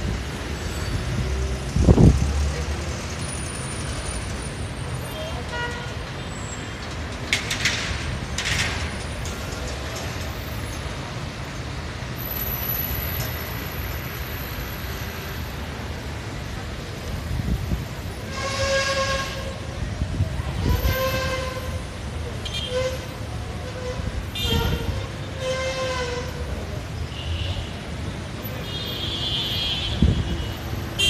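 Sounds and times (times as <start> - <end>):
distant city traffic: 0.0 - 31.0.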